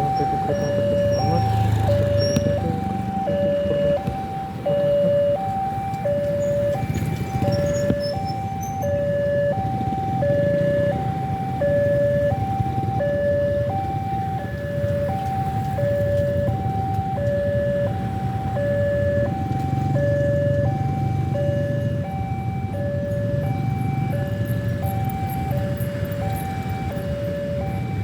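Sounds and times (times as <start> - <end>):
level crossing two-tone alarm: 0.0 - 28.0.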